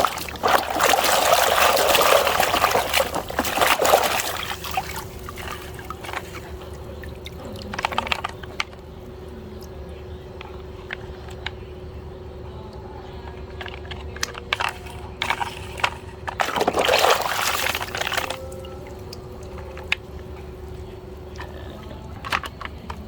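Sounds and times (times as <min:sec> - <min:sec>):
water splashing: 0:00.0 - 0:09.9, 0:13.4 - 0:22.7
steady hum: 0:00.0 - 0:23.0.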